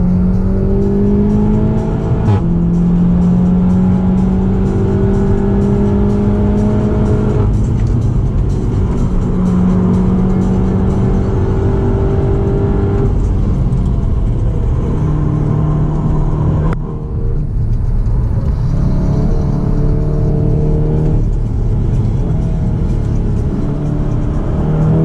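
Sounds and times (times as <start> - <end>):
car engine at high speed: 0.0 - 25.0
tyre and road noise: 0.0 - 25.0.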